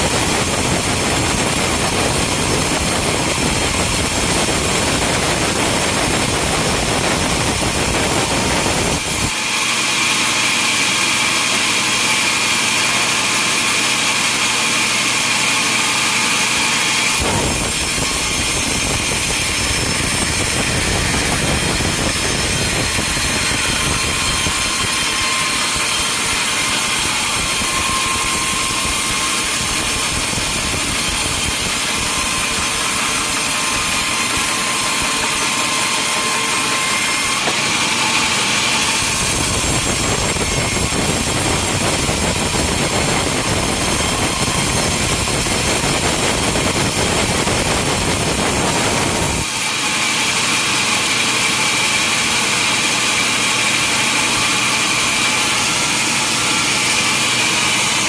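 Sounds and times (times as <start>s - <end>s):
saw cutting through logs: 0.0s - 58.0s
sawmill machinery running: 0.0s - 58.0s.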